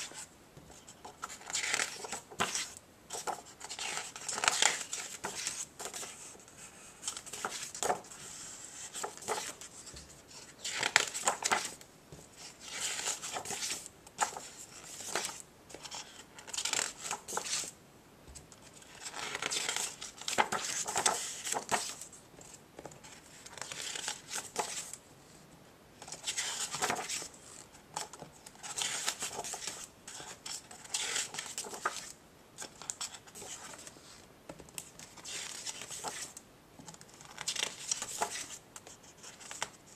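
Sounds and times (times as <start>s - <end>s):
book pages turning: 0.0s - 17.7s, 18.6s - 22.1s, 23.0s - 25.0s, 26.0s - 34.0s, 34.8s - 39.8s.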